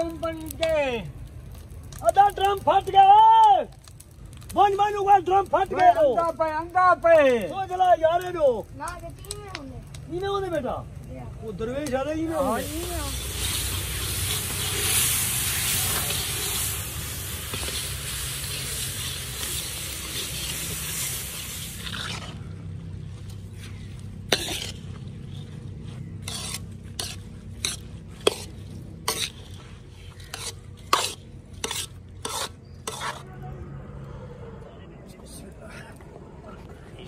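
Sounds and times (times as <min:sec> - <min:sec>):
tandoor cooking hiss: 0:00.0 - 0:33.3.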